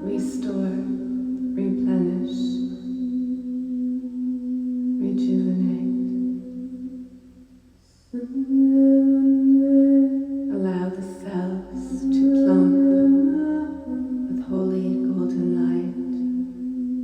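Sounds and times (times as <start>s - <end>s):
woman singing long notes: 0.0s - 7.3s, 8.1s - 17.0s.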